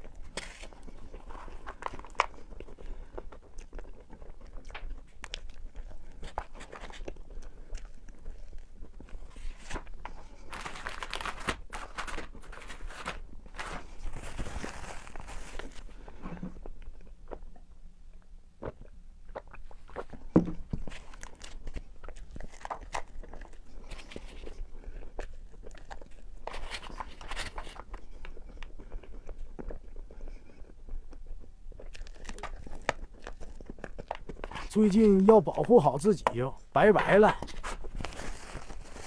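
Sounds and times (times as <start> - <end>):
close chewing and biting: 0.0 - 39.0.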